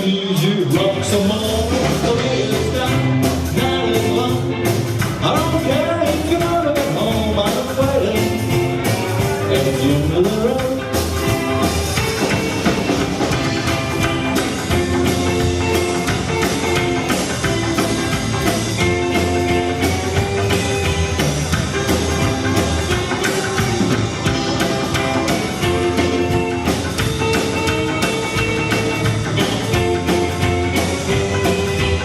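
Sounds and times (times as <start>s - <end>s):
drum kit steady beat: 0.0s - 32.0s
held guitar notes: 0.5s - 32.0s.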